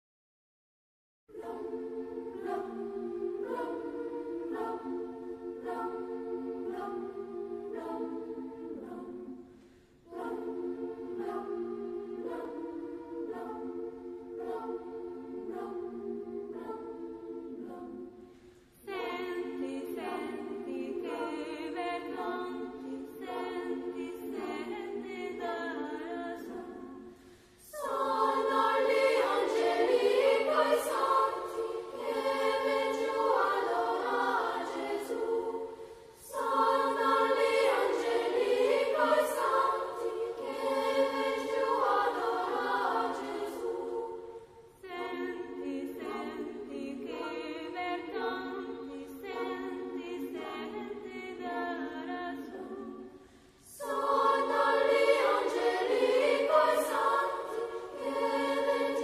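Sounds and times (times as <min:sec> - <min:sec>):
choir singing: 0:01.3 - 0:59.0.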